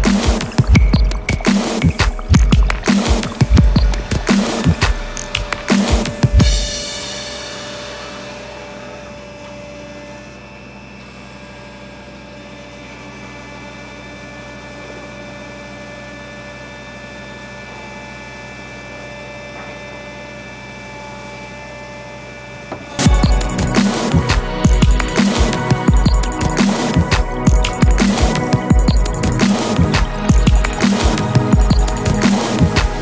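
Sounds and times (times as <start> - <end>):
electric drilling rig humming: 0.0 - 33.0.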